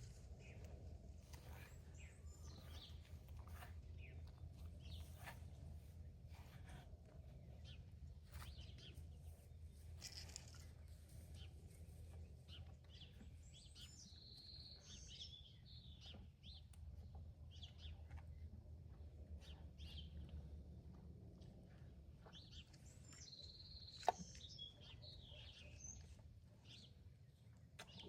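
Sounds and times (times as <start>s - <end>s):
faint songbirds chirping: 0.0s - 28.0s.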